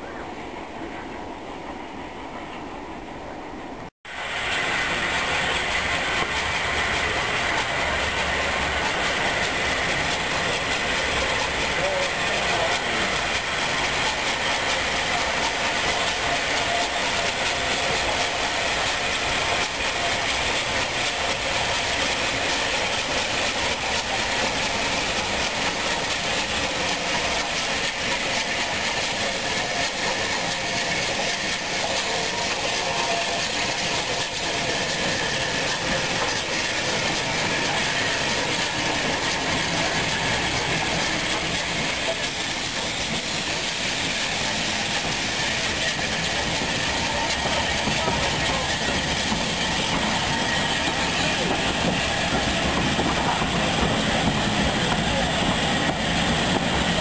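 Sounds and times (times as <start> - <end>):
steady hiss of steam: 0.0 - 57.0
steam locomotive running slowly: 0.0 - 57.0.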